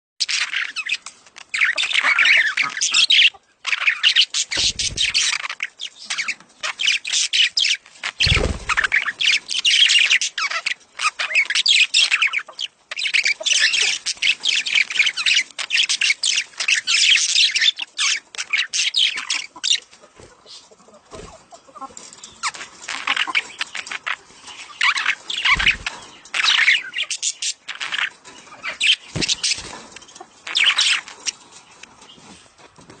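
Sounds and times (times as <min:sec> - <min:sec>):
budgerigars chattering: 0:00.2 - 0:21.0, 0:22.4 - 0:29.8, 0:30.5 - 0:31.3.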